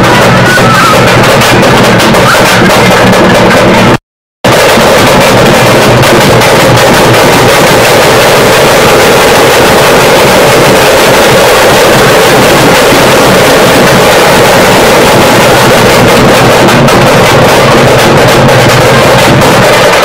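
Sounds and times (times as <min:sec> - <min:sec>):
frame drums and barrel drum beating: 0:00.0 - 0:20.0.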